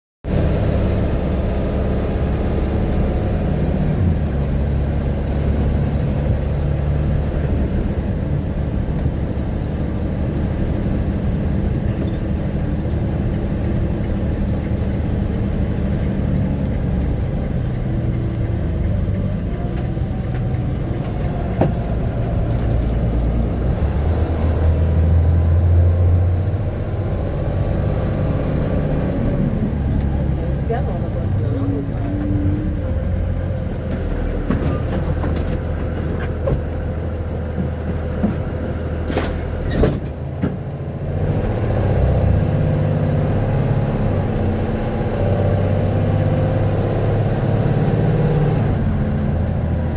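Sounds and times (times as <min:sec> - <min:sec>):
vehicle engine humming: 0:00.2 - 0:49.9.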